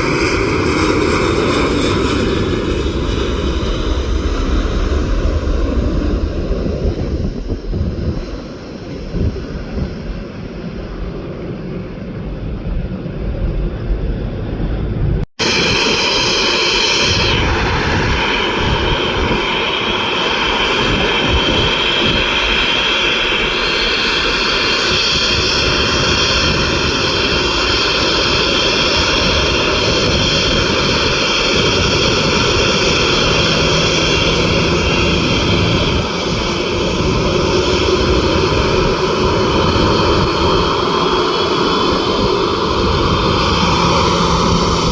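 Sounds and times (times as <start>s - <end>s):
low rumble: 0.0s - 22.7s, 29.9s - 44.9s
jet engines roaring with whine: 0.0s - 44.9s
wind on microphone: 0.0s - 44.9s.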